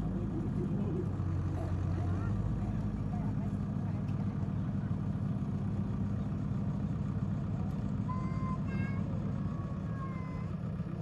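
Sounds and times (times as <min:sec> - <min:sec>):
road roller diesel engine running: 0:00.0 - 0:11.0.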